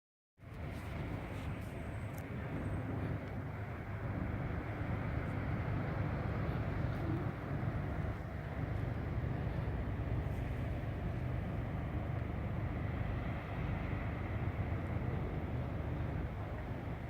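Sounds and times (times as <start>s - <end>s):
faint constant hum: 0.4s - 17.0s
low engine rumble: 0.4s - 17.0s.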